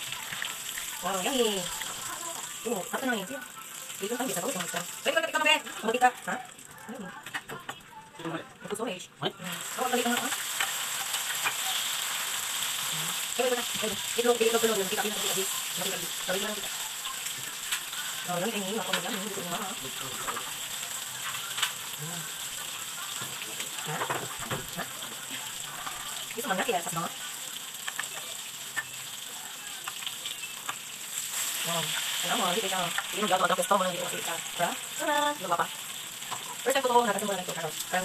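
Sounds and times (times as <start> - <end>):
food sizzling in hot oil: 0.0 - 7.4, 8.8 - 38.0.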